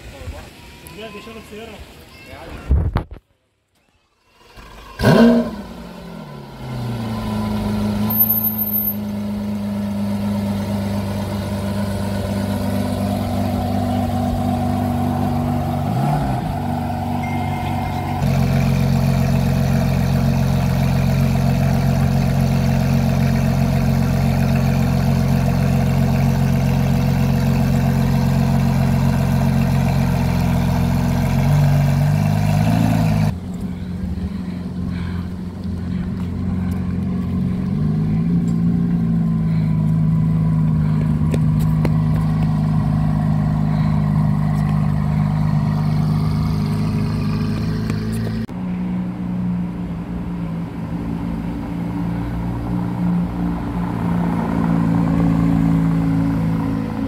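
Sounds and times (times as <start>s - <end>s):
car engine starting and idling: 4.3s - 57.0s.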